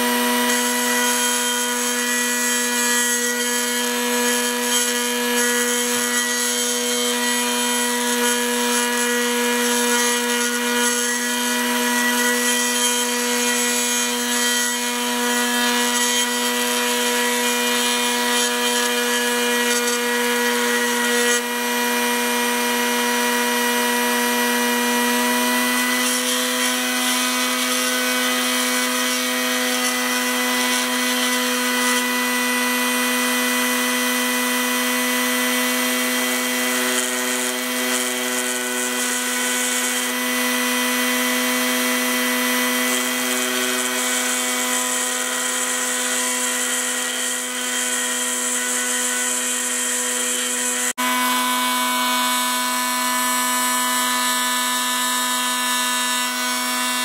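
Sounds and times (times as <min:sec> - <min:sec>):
bench grinder motor hum: 0:00.0 - 0:57.0.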